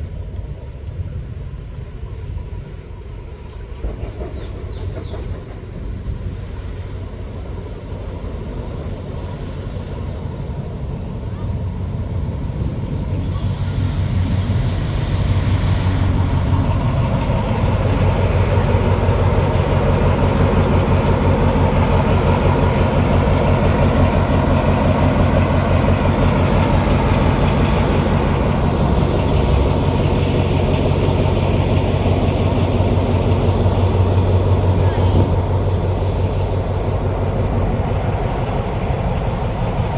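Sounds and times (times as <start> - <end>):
locomotive engine throbbing: 0.0 - 39.9.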